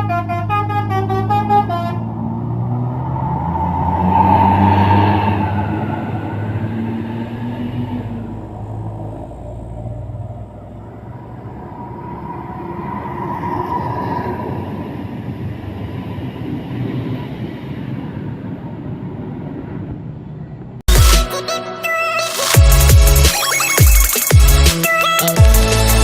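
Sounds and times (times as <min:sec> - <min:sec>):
bus diesel engine: 0:00.0 - 0:20.9
road rumble: 0:00.0 - 0:20.9.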